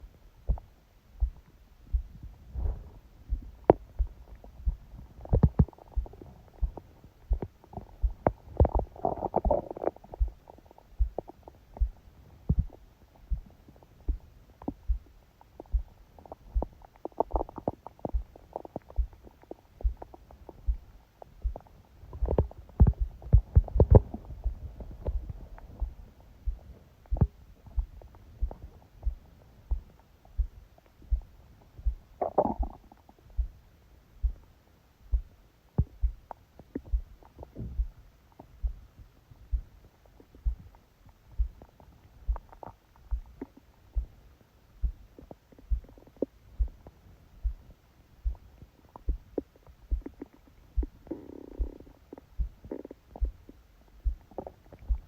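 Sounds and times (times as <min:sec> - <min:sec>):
stomach gurgling: 0:00.0 - 0:33.6, 0:35.1 - 0:55.0
fast heartbeat: 0:00.0 - 0:55.0.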